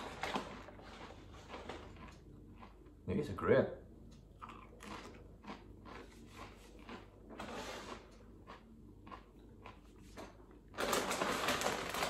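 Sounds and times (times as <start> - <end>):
chewing crisps: 0.0 - 3.0, 4.4 - 12.0.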